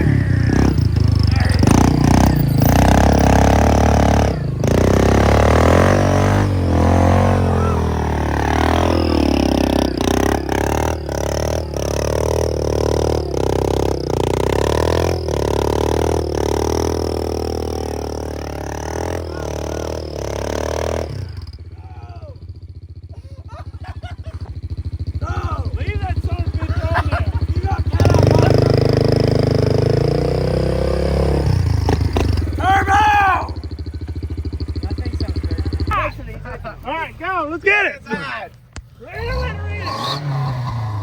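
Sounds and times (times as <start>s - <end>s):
vehicle engine revving: 0.0s - 21.8s, 22.5s - 41.0s.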